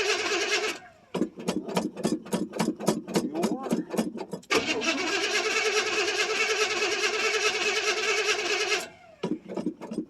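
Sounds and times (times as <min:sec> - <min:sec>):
car engine cold start and idling: 0:00.0 - 0:10.0.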